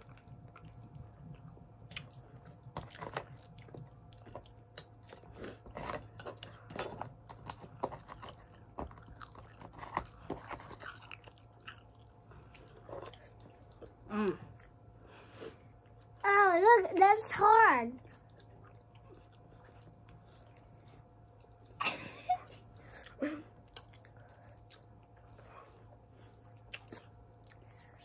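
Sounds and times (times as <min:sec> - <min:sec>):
chewing crunchy candy: 0:00.0 - 0:16.3, 0:18.0 - 0:28.0.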